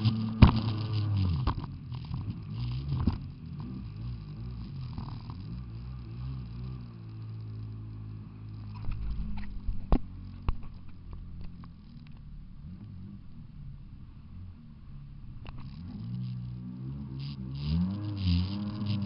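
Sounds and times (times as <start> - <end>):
engine running at low speed: 0.0 - 19.0.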